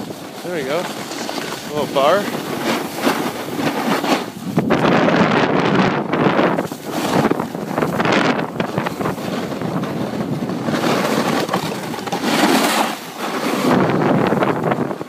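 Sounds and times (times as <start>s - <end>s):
snowboard scraping on snow: 0.0s - 15.0s
wind on microphone: 0.0s - 15.0s.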